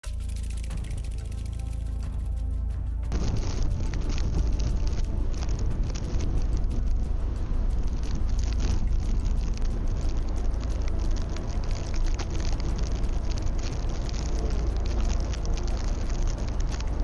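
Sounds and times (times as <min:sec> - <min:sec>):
crackling texture: 0:00.0 - 0:17.0
low street rumble: 0:00.0 - 0:17.0.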